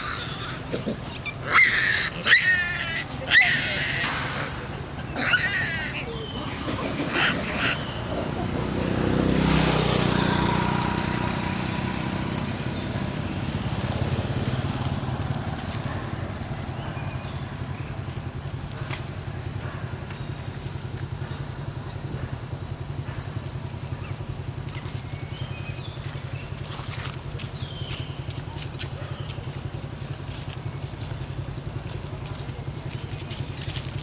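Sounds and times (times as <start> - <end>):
engine running: 0.0 - 34.0.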